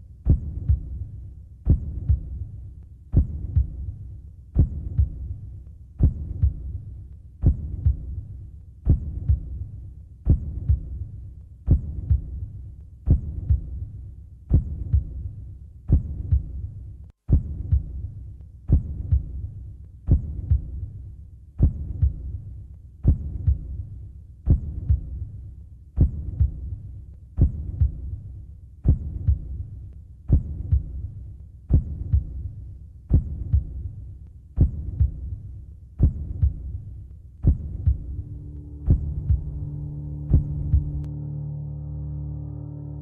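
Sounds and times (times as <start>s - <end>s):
low hum: 0.0s - 43.0s
heartbeat thumps: 0.2s - 41.1s.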